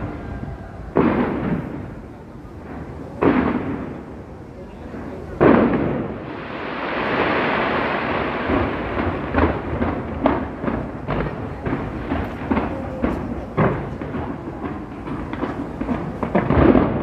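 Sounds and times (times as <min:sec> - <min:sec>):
fireworks boom: 0:00.0 - 0:17.0
fireworks rumble and crackle: 0:00.0 - 0:17.0
fireworks sharp bangs: 0:00.0 - 0:17.0.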